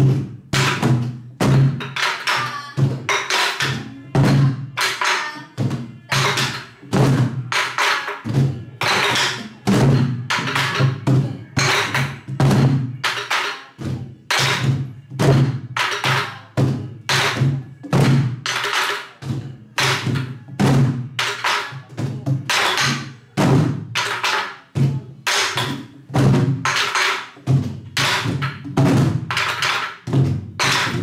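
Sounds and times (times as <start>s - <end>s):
barrel drums played with sticks: 0.0s - 31.0s.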